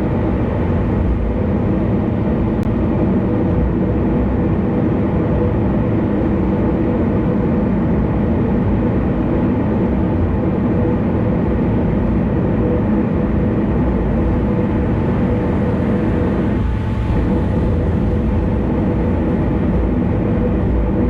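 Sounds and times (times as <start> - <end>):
car tyres and engine rumble: 0.0 - 21.0
faint steady hum: 0.0 - 21.0.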